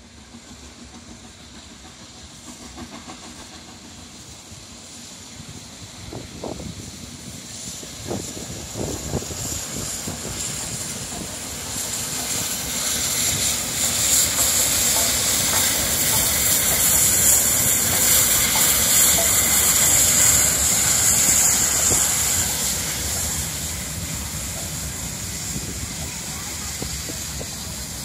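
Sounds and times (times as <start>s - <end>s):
steam locomotive hissing: 0.0s - 28.0s.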